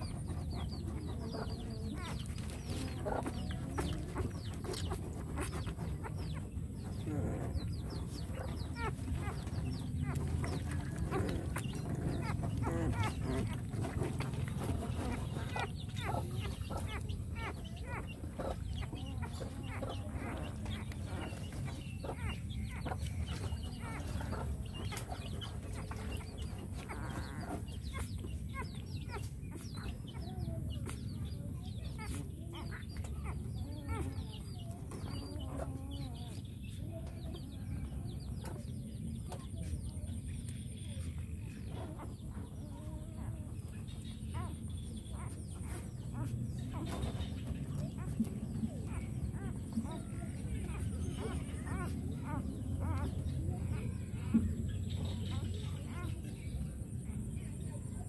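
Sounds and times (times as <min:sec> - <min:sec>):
puppy suckling clicks and squeaks: 0:00.0 - 0:37.4, 0:38.3 - 0:56.3.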